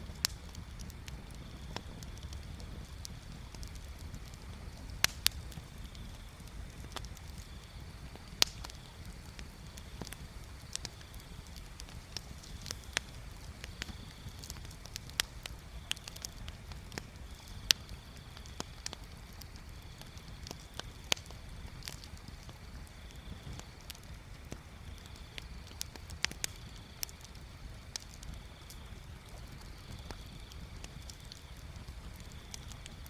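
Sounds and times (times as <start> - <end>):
bonfire crackling: 0.0 - 33.0.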